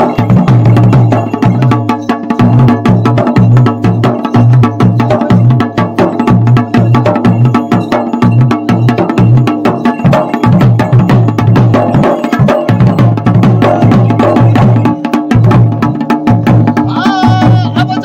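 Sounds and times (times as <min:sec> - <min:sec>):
small drum rapid strikes: 0:00.0 - 0:18.0.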